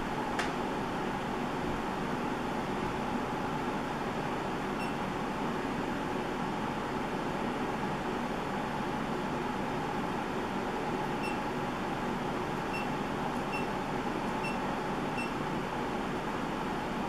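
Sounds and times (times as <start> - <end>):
steady rushing fan noise: 0.0 - 17.0.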